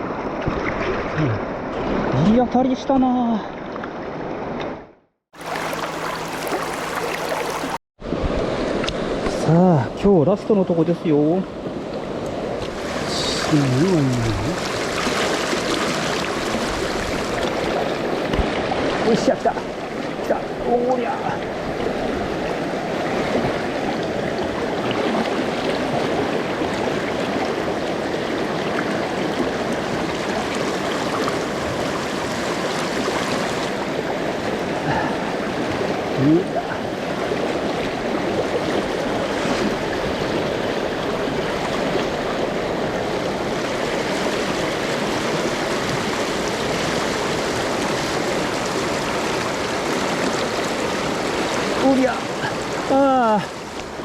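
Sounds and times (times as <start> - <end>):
river rushing over rocks: 5.4 - 7.8, 12.6 - 54.0.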